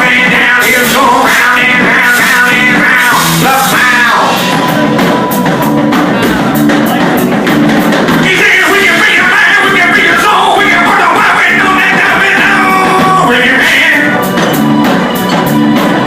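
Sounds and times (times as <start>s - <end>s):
band playing rock music: 0.0s - 16.0s.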